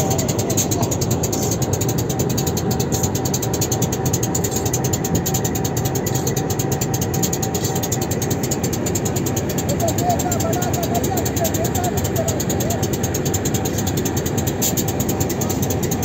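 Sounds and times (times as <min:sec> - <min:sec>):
rapid mechanical clatter: 0:00.0 - 0:16.0.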